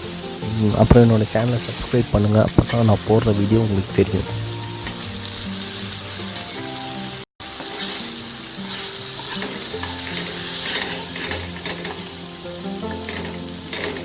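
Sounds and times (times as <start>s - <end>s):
background music: 0.0s - 14.0s
fish sizzling in hot oil: 0.0s - 14.0s.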